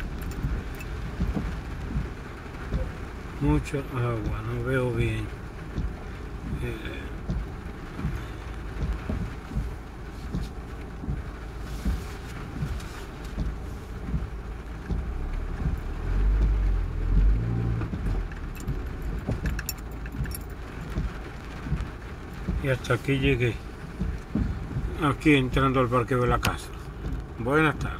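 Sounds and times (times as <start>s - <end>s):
car rumbling on wet road: 0.0s - 27.9s
rain hitting car: 0.0s - 27.9s.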